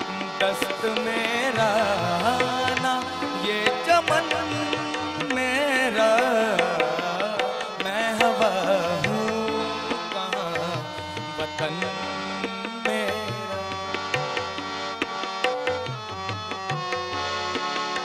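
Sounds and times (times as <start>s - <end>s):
man singing ornamented runs: 0.0s - 14.9s
harmonium: 0.0s - 18.0s
tabla drumming: 0.0s - 18.0s.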